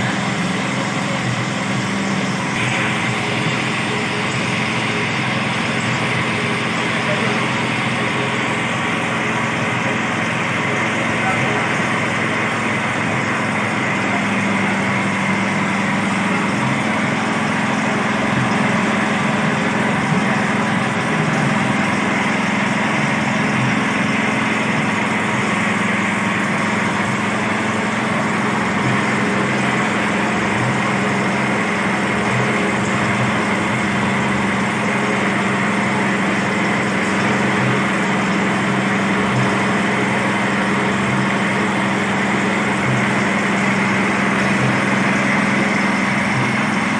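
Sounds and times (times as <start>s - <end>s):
small engine running under load: 0.0s - 46.9s.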